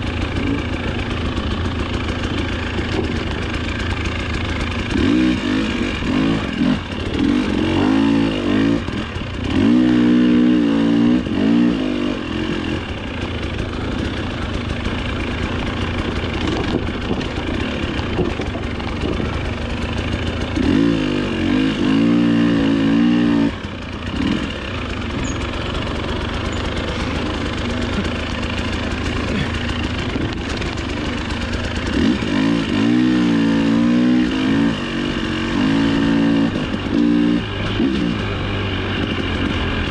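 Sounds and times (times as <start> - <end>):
dirt bike engine racing: 0.0 - 39.9.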